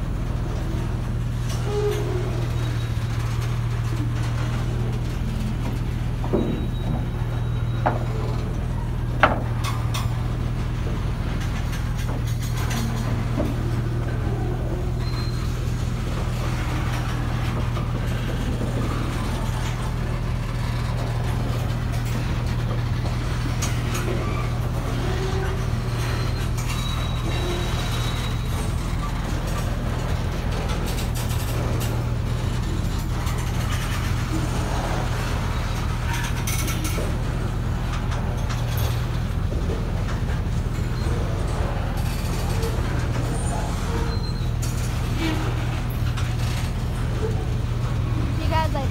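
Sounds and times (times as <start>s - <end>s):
train wheels rumbling on rail: 0.0s - 48.9s
wheels and couplers clanking: 0.0s - 48.9s.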